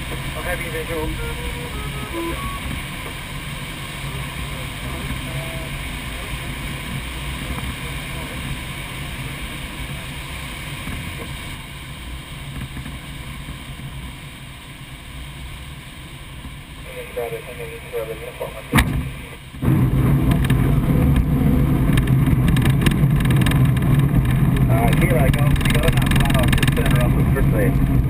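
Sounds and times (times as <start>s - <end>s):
low rumble: 0.0s - 14.3s, 16.8s - 28.0s.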